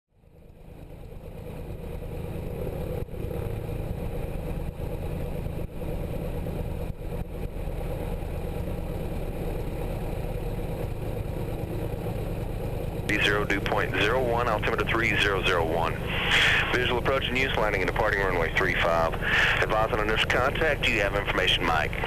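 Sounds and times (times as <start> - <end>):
propeller plane engine idling: 0.1 - 22.0.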